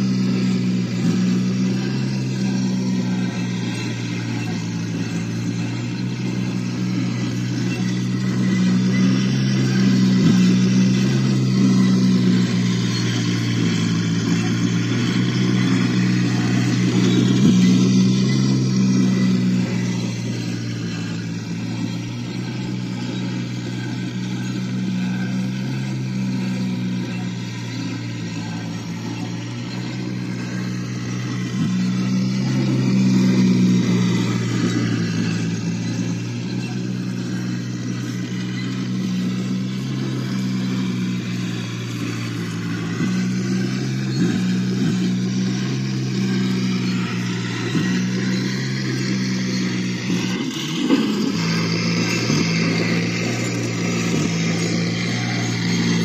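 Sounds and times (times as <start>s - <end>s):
toy vehicle motor droning: 0.0s - 56.0s.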